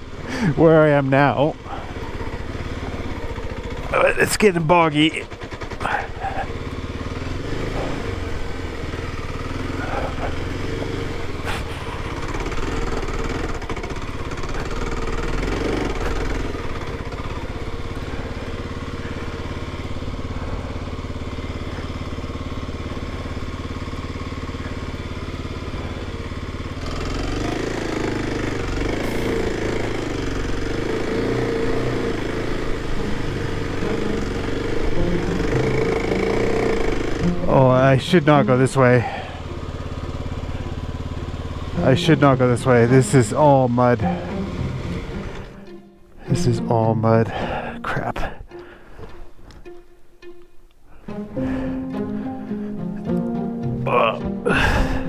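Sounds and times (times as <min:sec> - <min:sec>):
dirt bike engine running: 0:00.0 - 0:55.0
wavering mid-pitched engine tone: 0:00.0 - 0:55.0.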